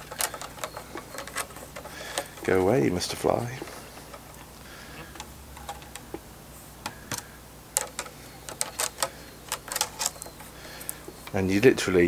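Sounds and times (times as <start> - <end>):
willow rods clicking: 0.0 - 6.2, 6.8 - 11.4.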